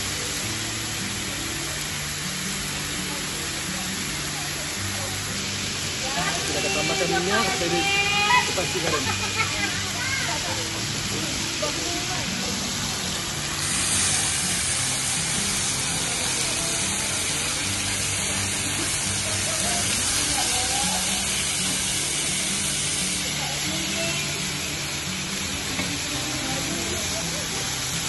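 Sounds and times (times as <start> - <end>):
meat sizzling on griddle: 0.0 - 28.0.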